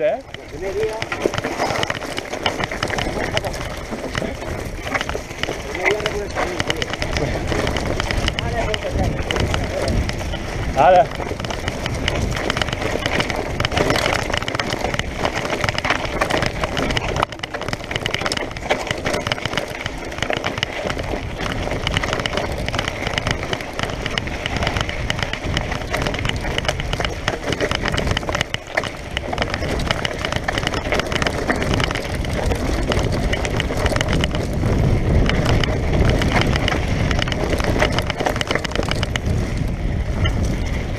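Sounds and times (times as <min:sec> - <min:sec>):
small knocks: 0:00.0 - 0:39.6
bike rattling over bumps: 0:00.0 - 0:40.9
tyres crunching on gravel: 0:00.0 - 0:40.9.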